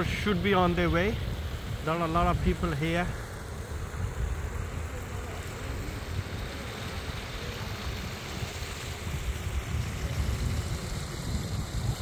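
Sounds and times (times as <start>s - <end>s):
low rumble of road traffic: 0.0s - 12.0s
wind buffeting microphone: 0.0s - 12.0s.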